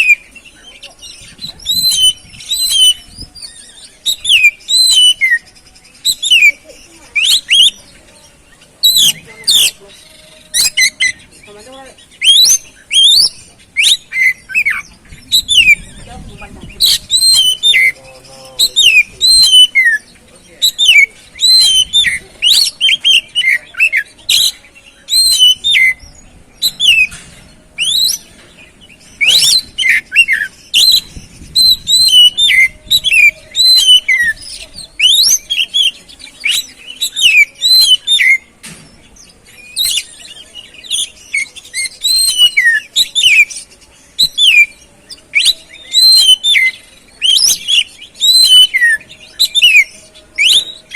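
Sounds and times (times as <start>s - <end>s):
songbird whistling song: 0.0s - 50.9s.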